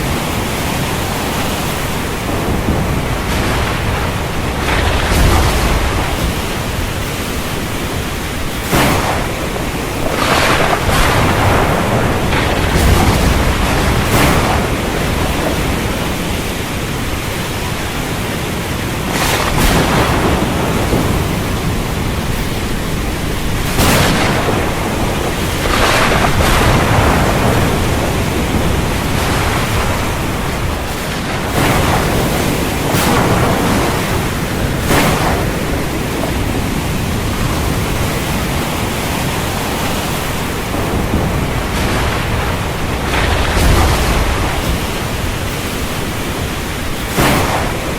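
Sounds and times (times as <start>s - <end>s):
rough surf: 0.0s - 47.9s
storm wind: 0.0s - 47.9s.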